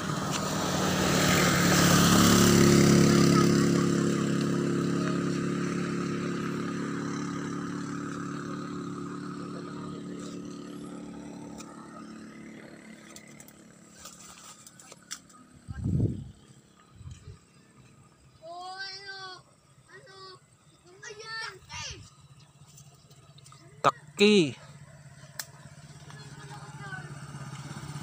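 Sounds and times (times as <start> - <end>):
motorcycle engine passing by: 0.0 - 28.0.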